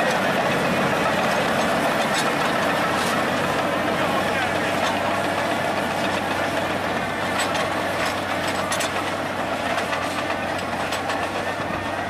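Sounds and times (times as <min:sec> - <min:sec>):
bulldozer engine under load: 0:00.0 - 0:12.0
faint clatter: 0:01.0 - 0:12.0.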